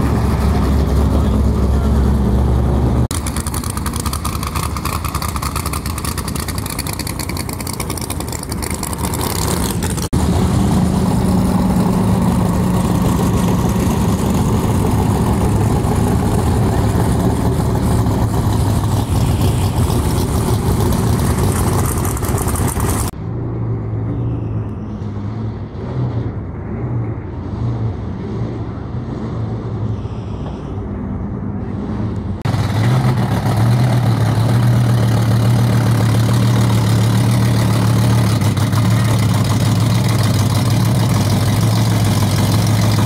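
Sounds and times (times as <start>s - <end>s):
deep steady engine note: 0.0s - 43.0s
loud drag racing engines: 0.0s - 43.0s
rough pulsing engine: 0.0s - 43.0s.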